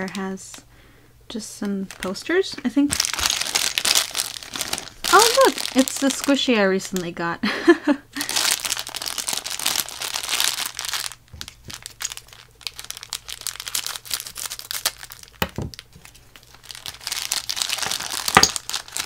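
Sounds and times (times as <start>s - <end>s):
plastic bag crinkling: 1.6s - 7.2s, 8.2s - 19.0s.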